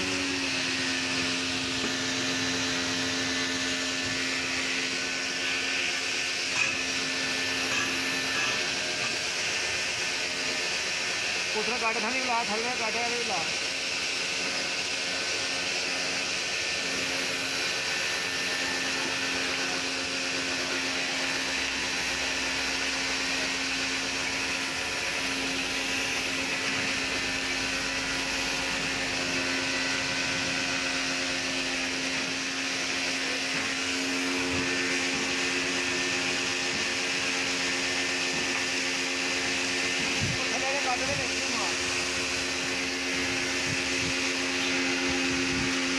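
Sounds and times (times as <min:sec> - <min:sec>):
machine motor humming and hissing: 0:00.0 - 0:45.9.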